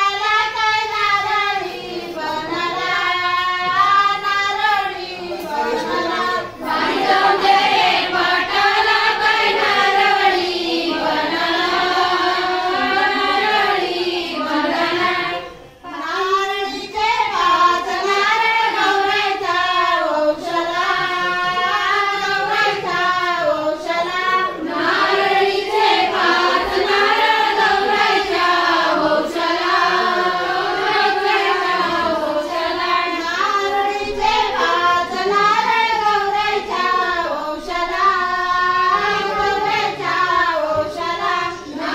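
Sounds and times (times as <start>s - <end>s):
women singing folk song: 0.0s - 41.9s.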